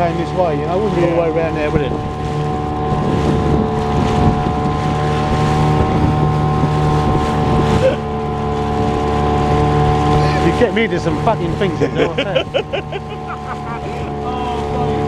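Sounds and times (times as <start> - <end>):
boat motor running: 0.0 - 15.0
water noise: 0.0 - 15.0
wind buffeting microphone: 0.0 - 15.0.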